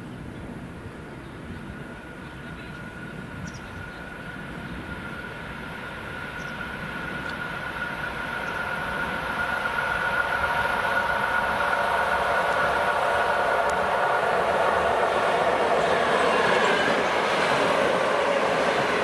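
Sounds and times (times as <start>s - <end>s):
electric train whine: 0.0s - 19.0s
train wheels rumbling on rails: 0.0s - 19.0s.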